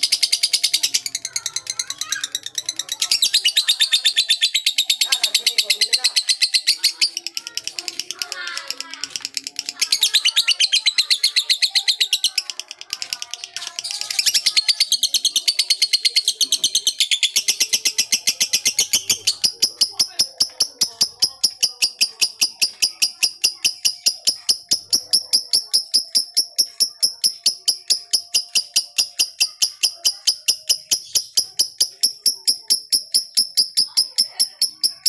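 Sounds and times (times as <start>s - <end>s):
faint voices: 0.0s - 35.0s
high-pitched chirps: 0.0s - 35.0s.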